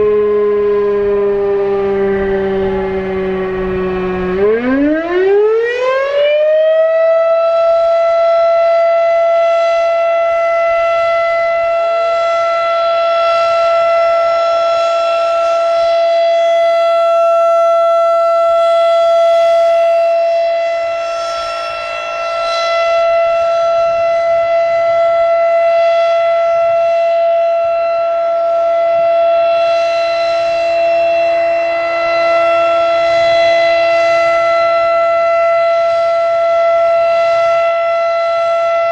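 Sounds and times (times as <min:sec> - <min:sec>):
rotating siren wailing: 0:00.0 - 0:38.9.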